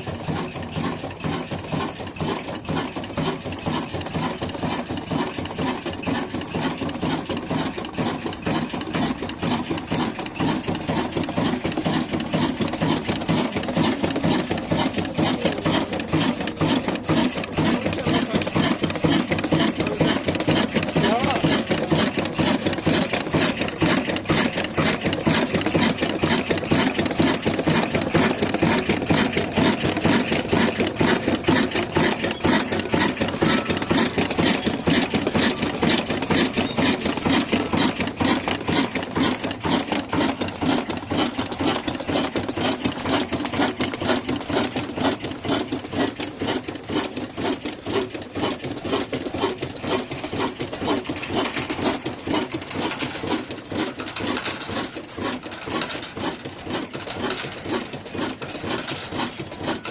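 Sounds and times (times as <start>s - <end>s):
diesel engine knocking under load: 0.0s - 59.9s.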